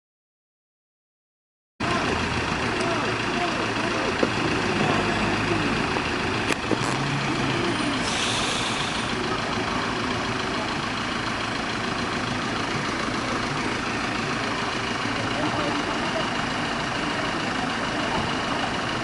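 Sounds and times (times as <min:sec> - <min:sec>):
vehicle and road noise: 0:01.8 - 0:19.0.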